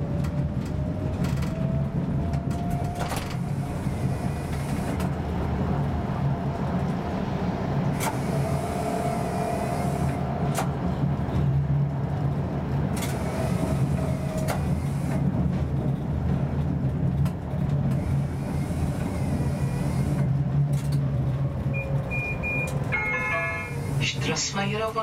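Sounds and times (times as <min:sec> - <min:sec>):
wheels clicking on track: 0:00.0 - 0:07.1, 0:07.7 - 0:25.0
tram electric drone: 0:00.0 - 0:25.0.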